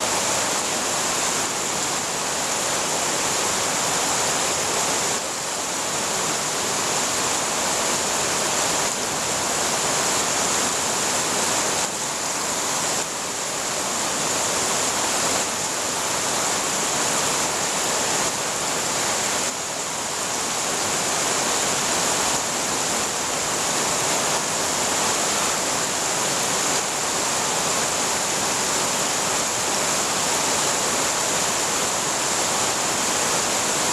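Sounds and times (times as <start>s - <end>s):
heavy rain on leaves: 0.0s - 33.9s.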